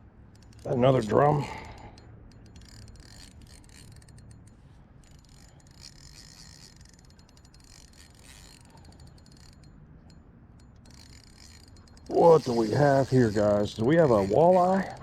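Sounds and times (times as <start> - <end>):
fishing reel clicking and whirring: 0.2 - 15.0.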